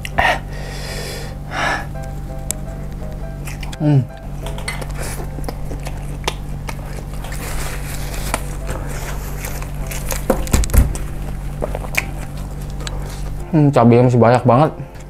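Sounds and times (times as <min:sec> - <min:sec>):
person chewing food: 0:00.0 - 0:00.5, 0:01.8 - 0:13.4
steady low hum: 0:00.0 - 0:15.0.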